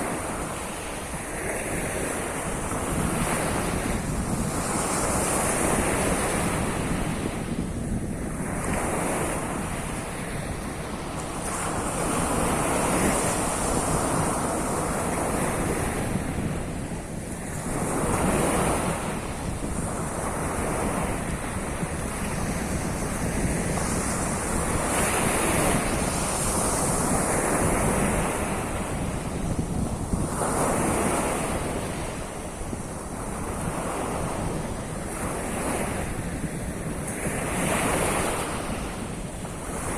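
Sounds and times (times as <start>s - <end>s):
waves washing onto shore: 0.0s - 39.9s
wind rumbling on microphone: 0.0s - 39.9s.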